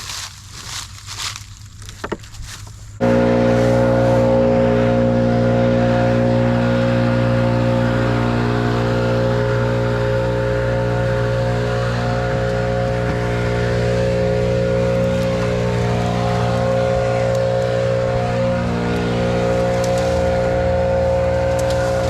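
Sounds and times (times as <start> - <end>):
engine running at high speed: 3.0 - 22.0.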